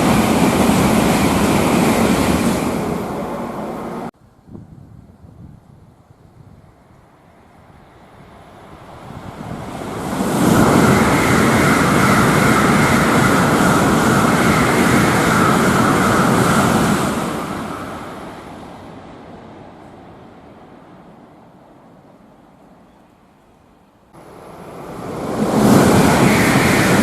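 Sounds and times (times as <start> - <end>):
bullet train passing at speed: 0.0 - 27.0.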